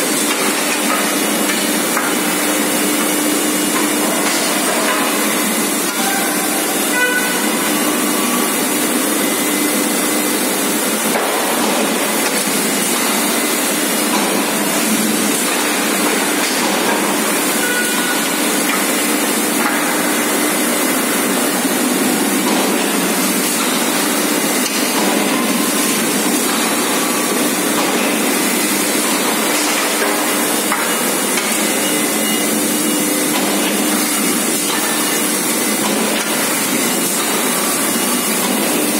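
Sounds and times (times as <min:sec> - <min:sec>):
machinery hissing and humming: 0:00.0 - 0:38.9.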